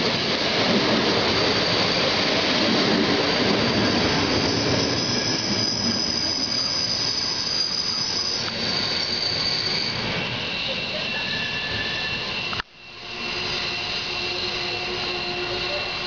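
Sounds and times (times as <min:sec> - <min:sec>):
high wheel squeal: 0:00.0 - 0:16.0
train wheels rumbling on rails: 0:00.0 - 0:16.0.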